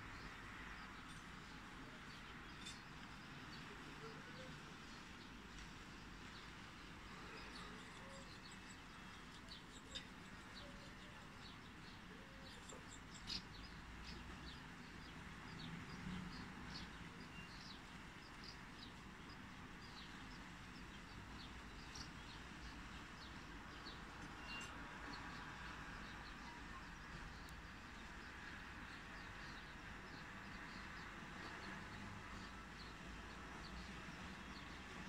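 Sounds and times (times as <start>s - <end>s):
faint outdoor background hum: 0.0s - 35.0s.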